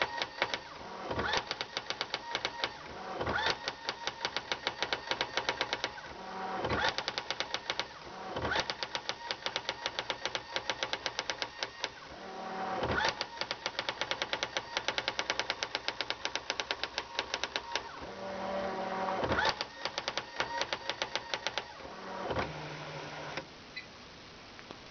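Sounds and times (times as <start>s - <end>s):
electronic typewriter printing: 0.0s - 23.5s
typewriter carrier whirring: 0.0s - 23.5s.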